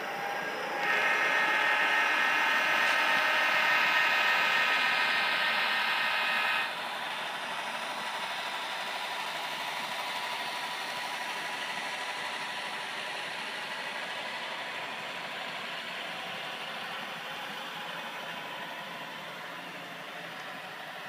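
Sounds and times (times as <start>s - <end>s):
model locomotive engine running: 0.0s - 21.0s.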